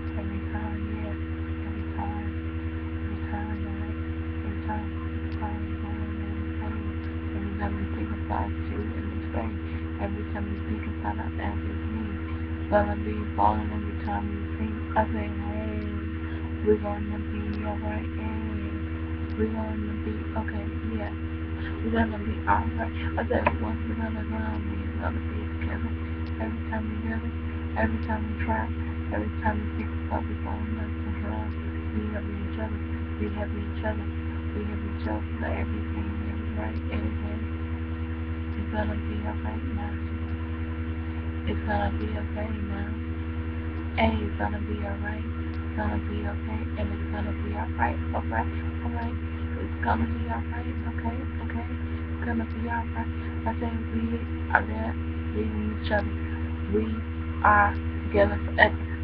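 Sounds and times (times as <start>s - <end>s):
electrical mains hum: 0.0s - 59.0s
faint murmurs: 0.0s - 59.0s.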